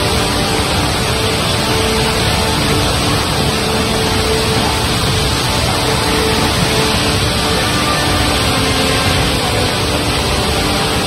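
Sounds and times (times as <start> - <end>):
background music: 0.0 - 11.0
muddy water torrent roaring: 0.0 - 11.0.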